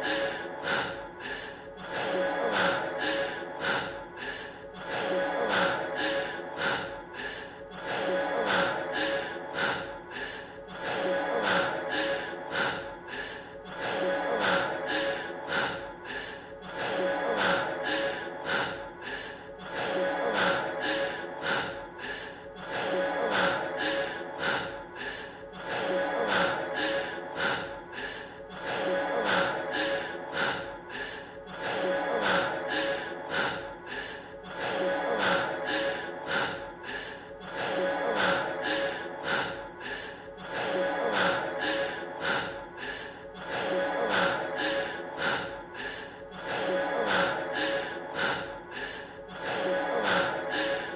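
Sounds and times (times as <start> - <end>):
man breathing heavily: 0.0 - 50.9.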